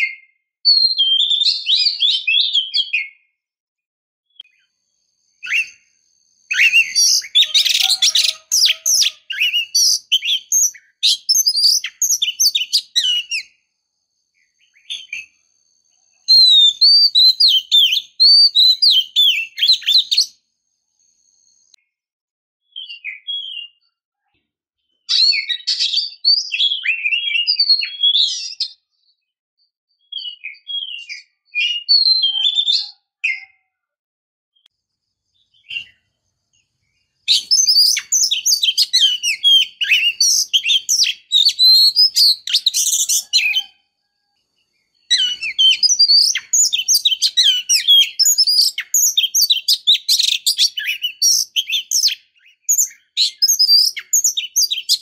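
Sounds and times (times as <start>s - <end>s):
bird singing chirps and whistles: 0.0s - 3.3s, 5.3s - 13.6s, 14.4s - 20.4s, 22.7s - 23.9s, 24.9s - 28.9s, 30.0s - 33.7s, 35.4s - 36.1s, 37.0s - 43.8s, 44.9s - 55.0s.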